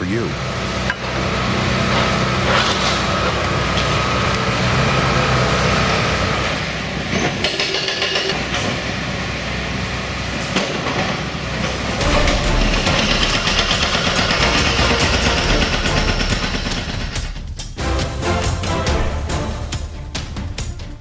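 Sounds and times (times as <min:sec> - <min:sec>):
excavator diesel engines: 0:00.0 - 0:21.0.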